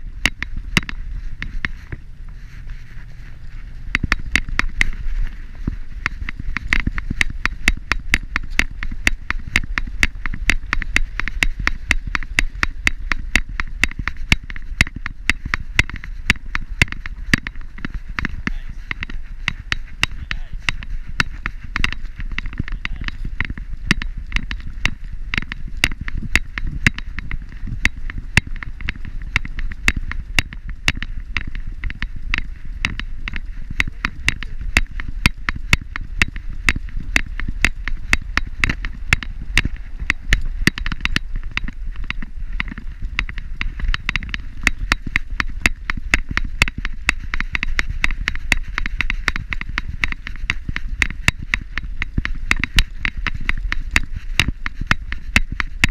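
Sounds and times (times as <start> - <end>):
camera jostling rumble: 0.0 - 55.9.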